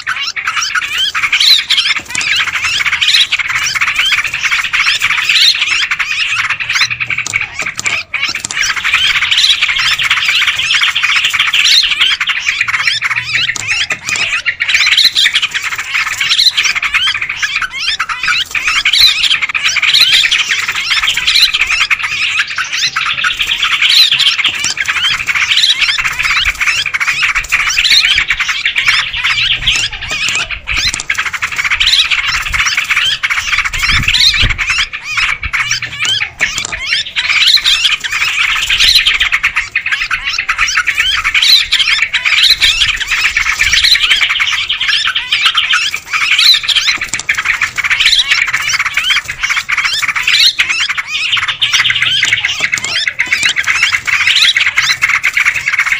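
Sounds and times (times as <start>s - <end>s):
flock of birds chattering: 0.0s - 55.9s.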